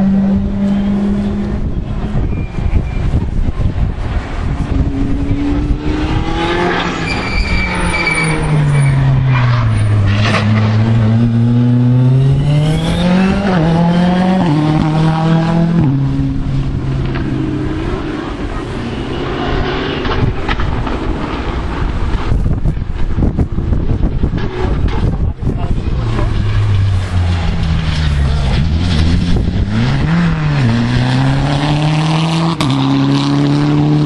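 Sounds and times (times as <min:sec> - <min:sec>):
rally car engine passing: 0:04.2 - 0:22.4, 0:23.2 - 0:34.0.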